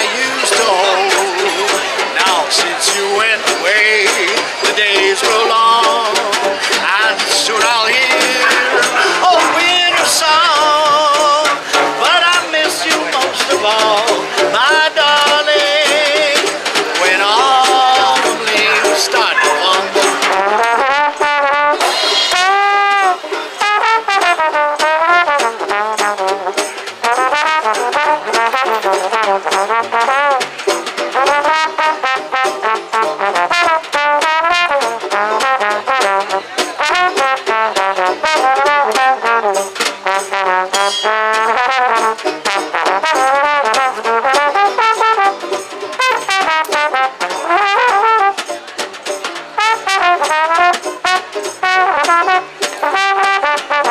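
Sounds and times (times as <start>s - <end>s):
drums: 0.0s - 53.9s
guitar: 0.0s - 53.9s
trombone playing jazz melody: 0.0s - 53.9s
upright bass: 0.0s - 53.9s.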